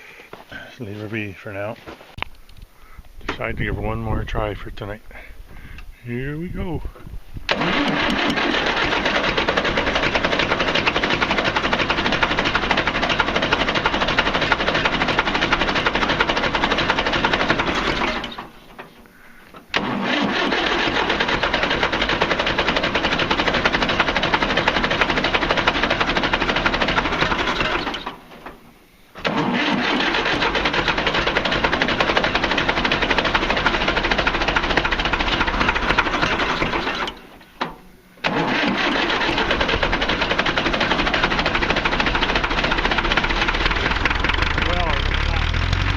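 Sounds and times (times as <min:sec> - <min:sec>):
diesel engine cranking on starter: 0:07.5 - 0:45.9.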